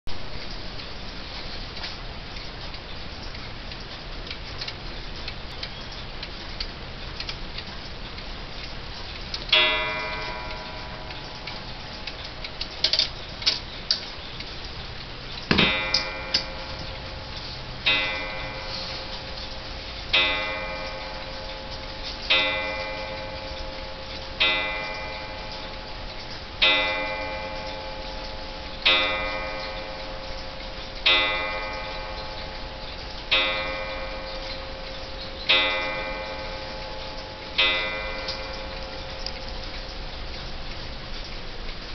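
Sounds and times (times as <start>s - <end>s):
clock ticking: 0.1s - 41.9s
clock striking: 0.4s - 41.9s.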